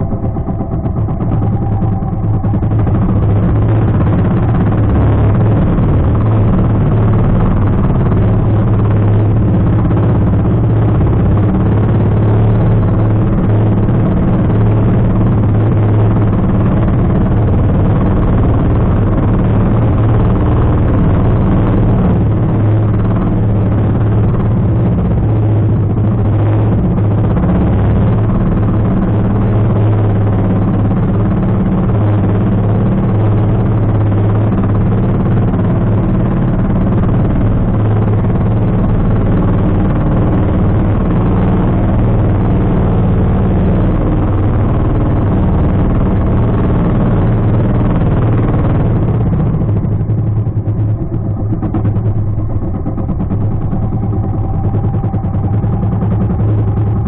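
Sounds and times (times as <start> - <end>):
boat engine humming: 0.0 - 57.0
rush of moving boat: 0.0 - 57.0.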